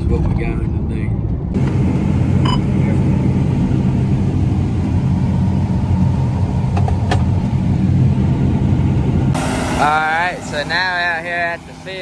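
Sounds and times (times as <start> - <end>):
vehicle engine rumble: 0.0 - 12.0
road noise: 1.2 - 12.0.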